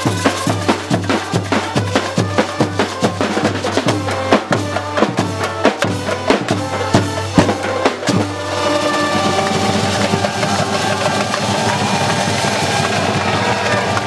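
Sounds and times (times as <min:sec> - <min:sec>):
brass band playing: 0:00.0 - 0:14.0
drum beats: 0:00.0 - 0:14.0.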